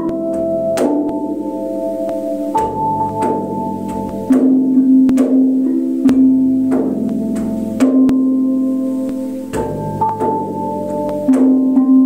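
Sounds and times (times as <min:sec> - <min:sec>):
metal bells ringing melody: 0:00.0 - 0:12.0.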